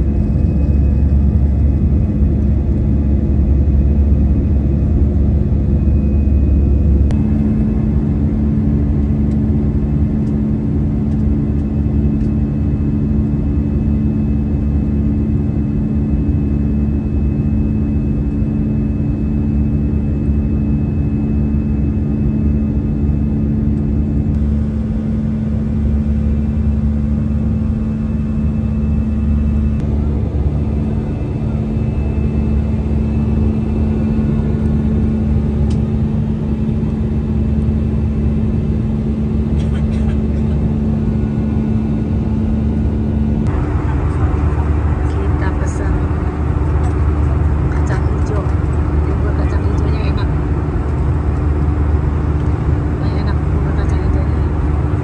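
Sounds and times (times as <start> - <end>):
jet engines droning in cabin: 0.0 - 55.0
steady humming tones: 0.0 - 55.0.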